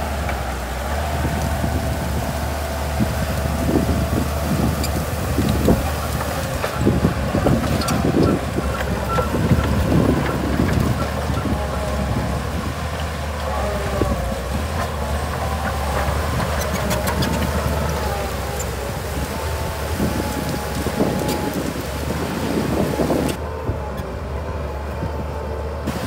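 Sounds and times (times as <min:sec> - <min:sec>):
bulldozer diesel engine: 0:00.0 - 0:26.0.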